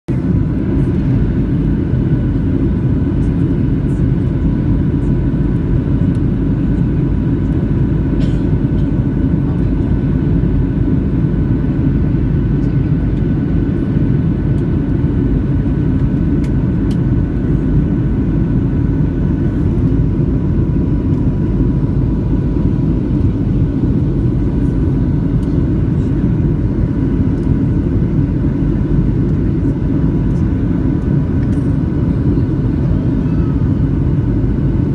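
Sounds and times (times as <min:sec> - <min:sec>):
airplane cabin drone: 0:00.1 - 0:34.9
faint steady whines: 0:00.1 - 0:34.9.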